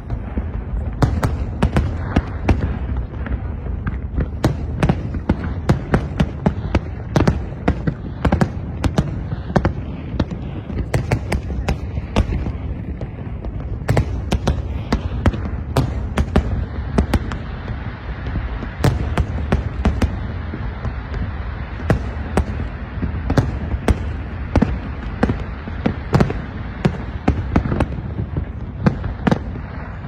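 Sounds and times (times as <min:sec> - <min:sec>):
continuous low rumble: 0:00.0 - 0:30.0
fireworks bangs and cracks: 0:00.0 - 0:30.0.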